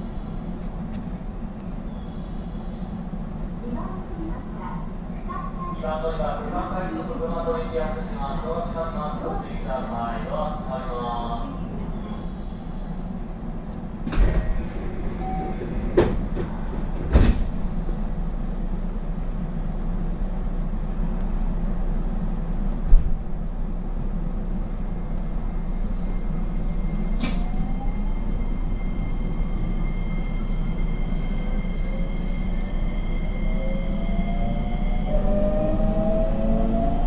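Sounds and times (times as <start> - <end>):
train interior rumble: 0.0 - 37.0.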